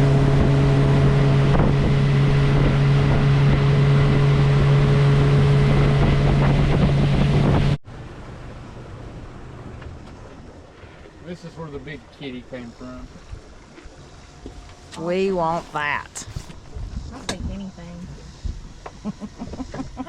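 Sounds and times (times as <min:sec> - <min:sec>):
wind buffeting microphone: 0:00.0 - 0:07.8, 0:08.4 - 0:20.0
boat motor running: 0:00.0 - 0:20.0.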